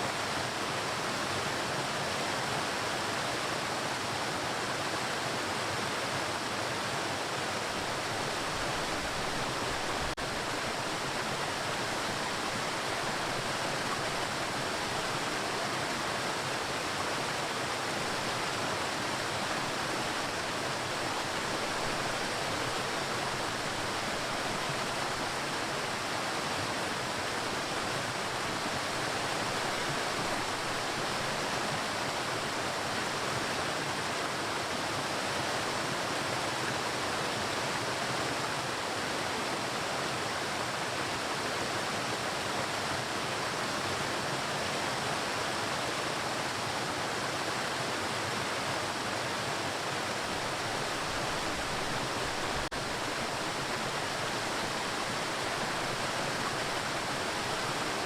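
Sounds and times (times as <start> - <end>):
waterfall roaring: 2.7 - 35.8, 44.3 - 58.0.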